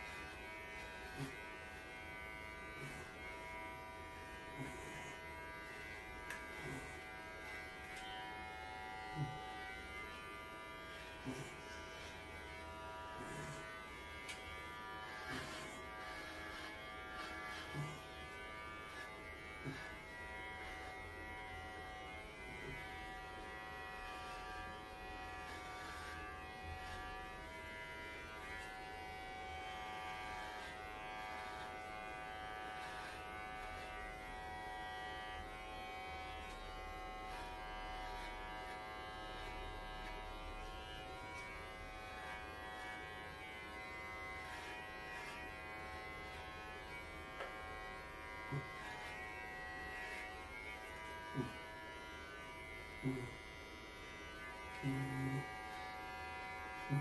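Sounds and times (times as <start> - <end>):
electric clippers buzzing: 0.0 - 57.0.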